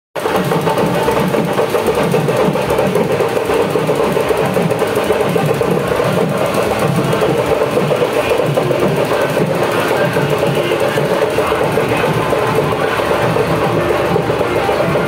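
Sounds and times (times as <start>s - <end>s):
fast drumming: 0.2s - 15.0s
loud music: 0.2s - 15.0s.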